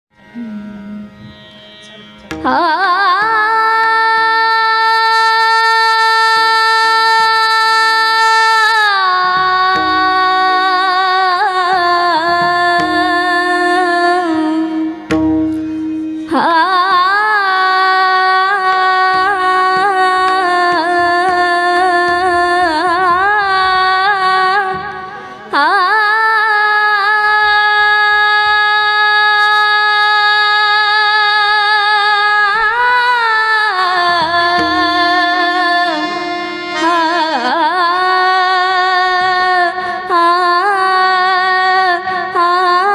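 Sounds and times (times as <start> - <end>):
woman singing wordlessly: 2.4 - 15.0, 16.3 - 42.9.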